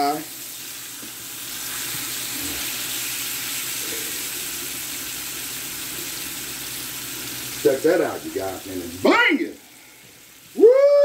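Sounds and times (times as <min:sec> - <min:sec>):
steaks sizzling in oil: 0:00.0 - 0:11.0.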